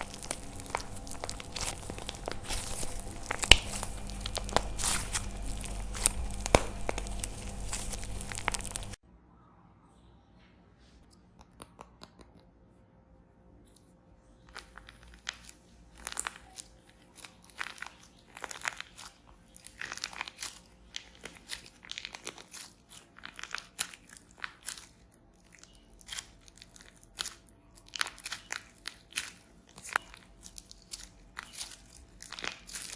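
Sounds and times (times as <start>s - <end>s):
dried clay crunching and cracking: 0.0s - 9.0s, 14.4s - 32.9s.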